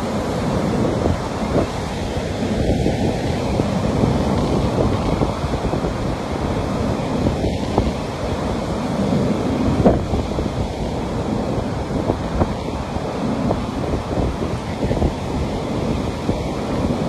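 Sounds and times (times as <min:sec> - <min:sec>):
surf washing onto beach: 0:00.0 - 0:17.0
wind noise on microphone: 0:00.0 - 0:17.0.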